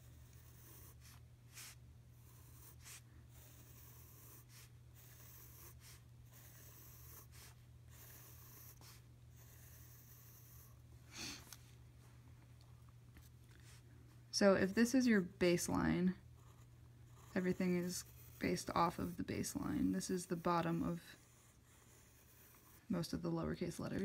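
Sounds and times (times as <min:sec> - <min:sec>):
pencil scratching on paper: 0:00.0 - 0:10.8, 0:14.5 - 0:24.0
low steady hum: 0:00.0 - 0:24.0.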